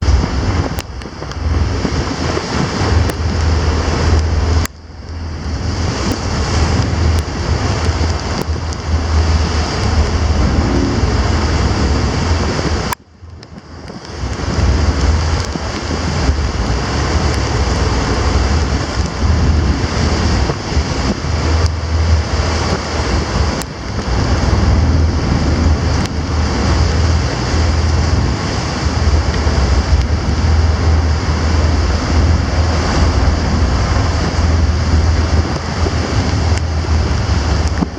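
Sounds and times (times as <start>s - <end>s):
heavy low rumble: 0.0s - 37.9s
rough sea washing: 0.0s - 37.9s
wind buffeting microphone: 0.0s - 37.9s.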